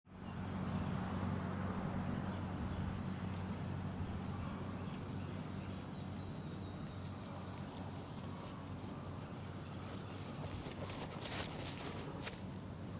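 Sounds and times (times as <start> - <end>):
insects chirping: 0.1 - 12.9
steady low hum: 0.1 - 12.9.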